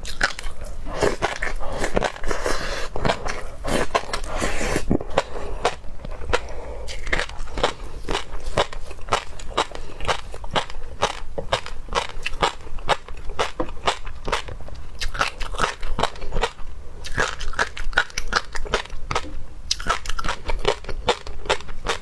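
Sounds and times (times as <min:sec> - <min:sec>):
crunchy chewing of seafood: 0:00.0 - 0:22.0.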